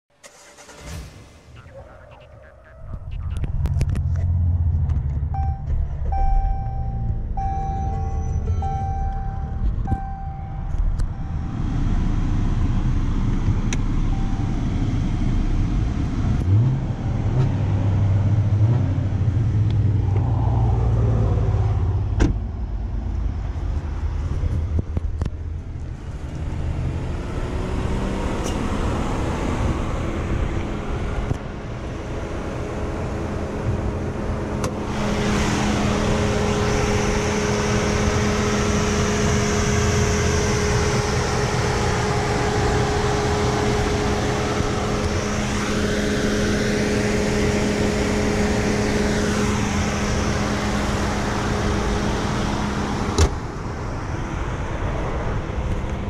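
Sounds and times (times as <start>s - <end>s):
engine whine: 0.2s - 56.0s.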